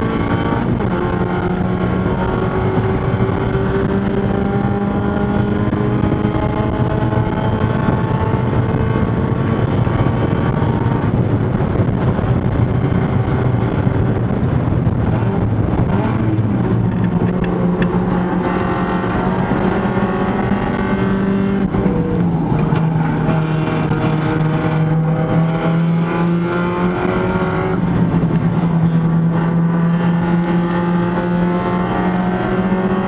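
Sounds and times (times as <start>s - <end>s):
race car engine droning: 0.0s - 33.0s
road and wind noise: 0.0s - 33.0s.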